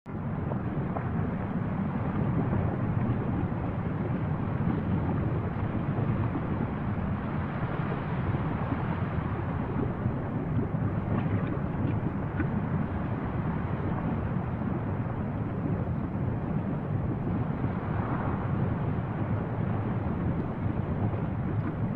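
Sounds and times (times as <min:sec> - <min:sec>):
lava fountain low rumble: 0:00.1 - 0:21.9
faint crackles: 0:00.2 - 0:21.9.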